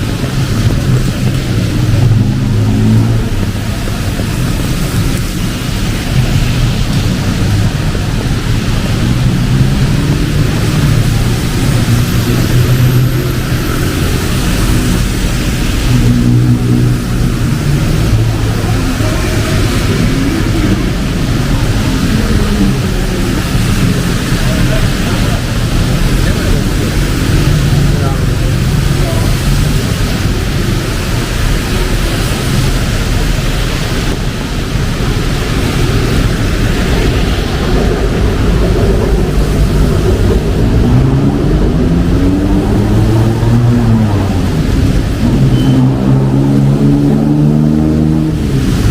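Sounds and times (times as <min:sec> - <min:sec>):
heavy rain hissing: 0:00.0 - 0:48.9
street traffic rumble: 0:00.0 - 0:48.9.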